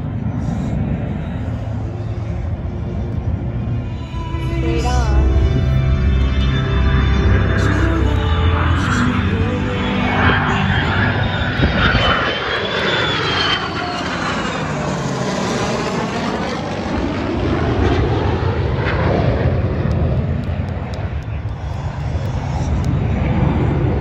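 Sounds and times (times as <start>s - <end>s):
fighter jets roaring overhead: 0.0s - 24.0s
high jet whine: 0.0s - 24.0s.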